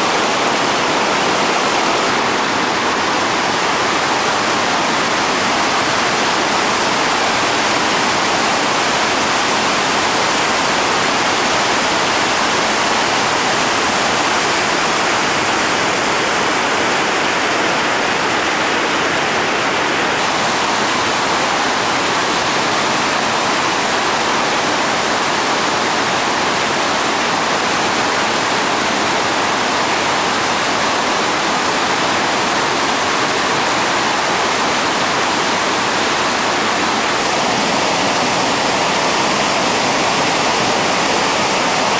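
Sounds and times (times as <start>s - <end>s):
water rushing over rocks: 0.0s - 41.9s.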